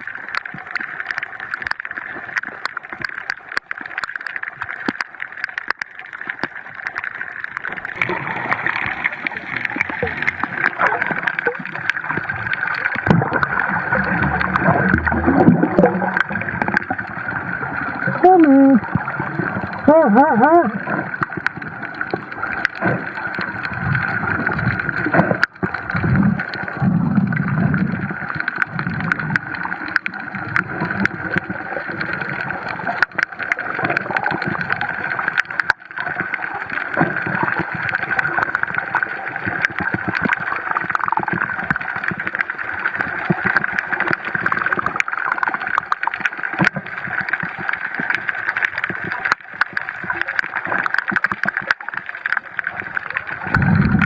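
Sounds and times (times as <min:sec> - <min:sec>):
low bubbling: 0:00.0 - 0:54.0
water sloshing and gurgling: 0:00.0 - 0:54.0.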